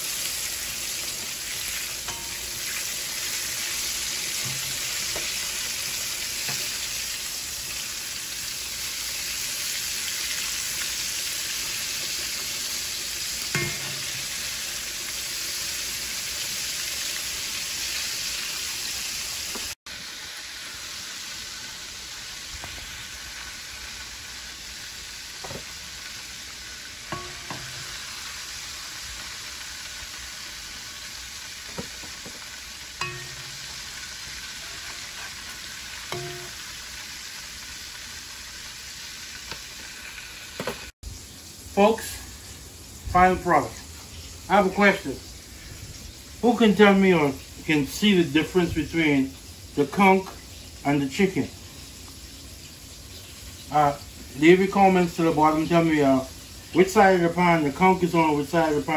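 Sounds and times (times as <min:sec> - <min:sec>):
food sizzling in hot oil: 0:00.0 - 0:58.9.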